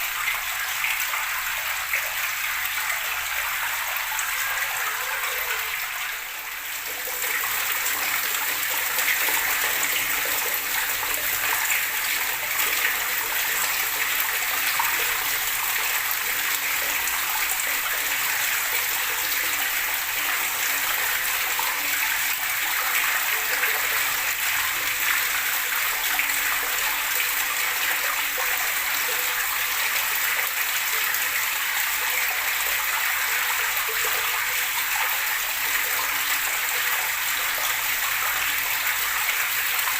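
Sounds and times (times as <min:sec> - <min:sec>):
running water gurgling and splashing: 0:00.0 - 0:39.9.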